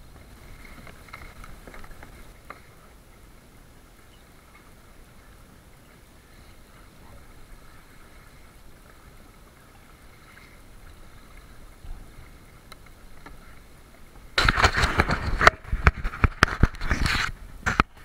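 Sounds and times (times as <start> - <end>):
water washing along hull: 0.0 - 18.0
waves splashing against boat: 0.0 - 18.0.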